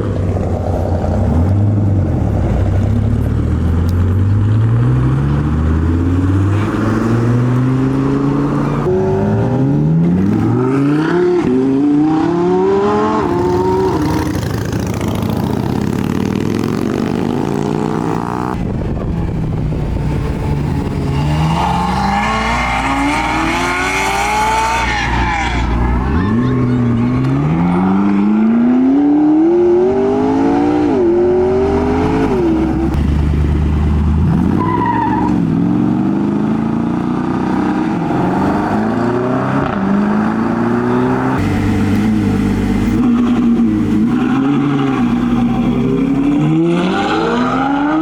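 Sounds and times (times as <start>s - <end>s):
car engines accelerating hard: 0.0s - 48.0s.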